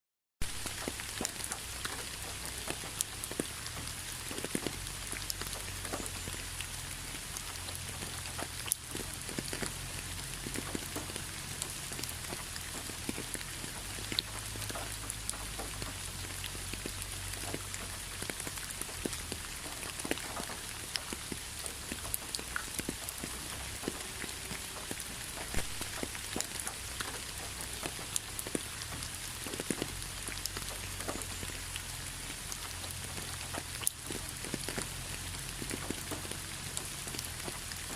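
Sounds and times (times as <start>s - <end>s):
raindrops ticking on a surface: 0.4s - 37.9s
steady rain hiss: 0.4s - 37.9s.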